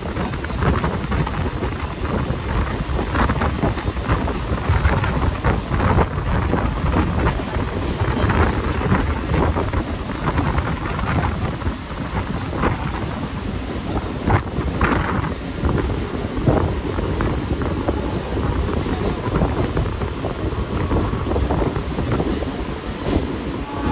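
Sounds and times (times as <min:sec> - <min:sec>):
moving train rumble: 0:00.0 - 0:23.9
wind buffeting microphone: 0:00.0 - 0:23.9.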